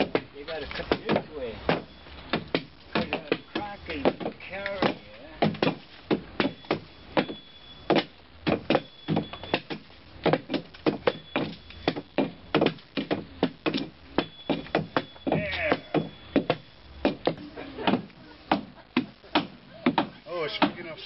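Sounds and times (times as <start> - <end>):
axe chopping wood: 0.0 - 20.8.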